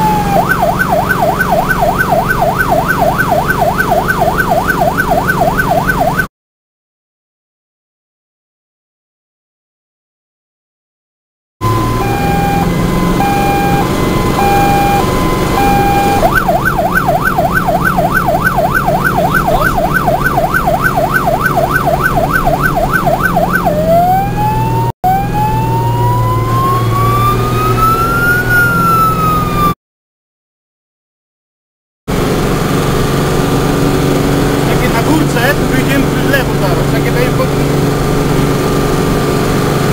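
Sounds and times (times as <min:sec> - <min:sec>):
fire truck siren: 0:00.0 - 0:06.3, 0:11.6 - 0:29.8, 0:32.2 - 0:39.9
truck engine hum: 0:00.0 - 0:06.3, 0:11.6 - 0:29.8, 0:32.1 - 0:39.9.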